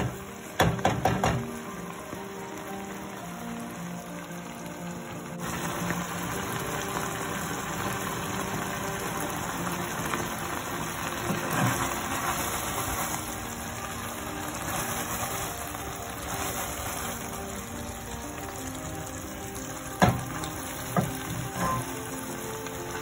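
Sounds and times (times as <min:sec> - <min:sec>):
curry sauce simmering in a pan: 0:00.0 - 0:23.0.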